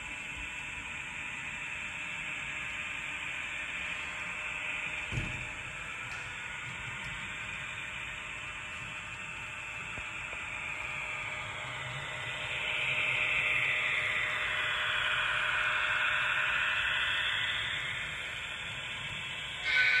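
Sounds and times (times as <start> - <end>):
model train running past: 0.0 - 20.0.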